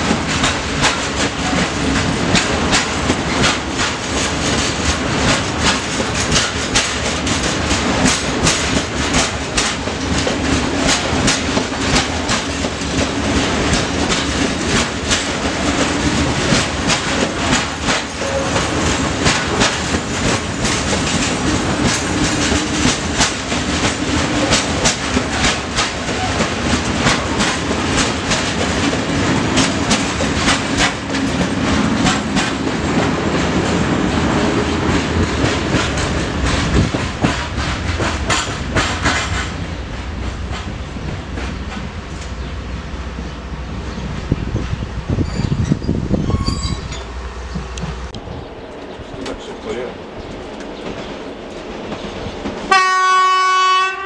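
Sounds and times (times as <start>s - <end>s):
wheels clacking over rail joints: 0.0s - 52.9s
train wheels rumbling on rail: 0.0s - 54.0s.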